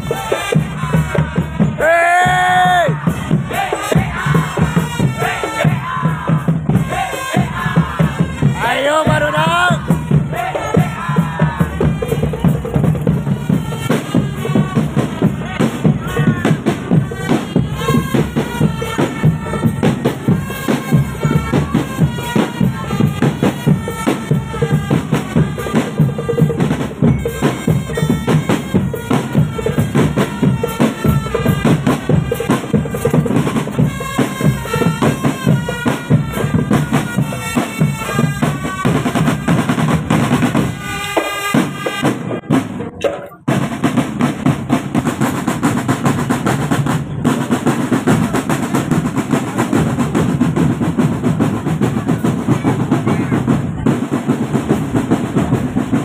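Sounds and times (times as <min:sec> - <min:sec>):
snare and bass drumming: 0:00.0 - 0:56.0.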